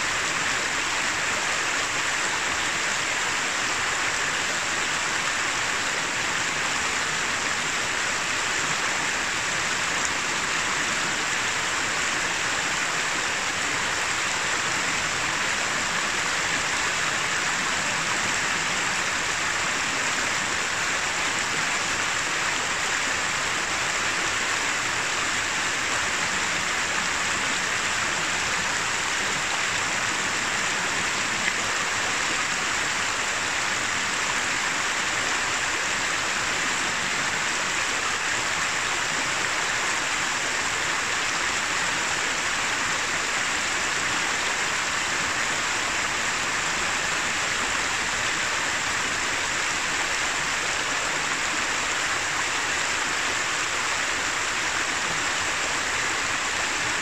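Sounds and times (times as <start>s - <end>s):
river running over stones: 0.0s - 57.0s.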